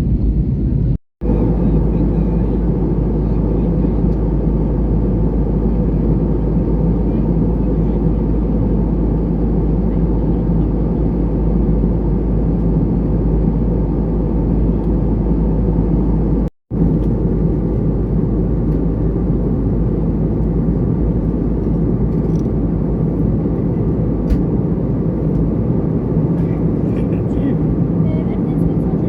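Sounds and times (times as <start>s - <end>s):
airliner cabin engine drone: 0.0s - 29.0s.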